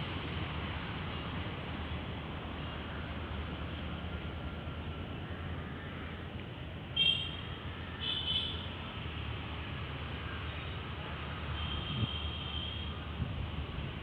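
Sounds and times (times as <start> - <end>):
distant traffic rumble: 0.0 - 14.0.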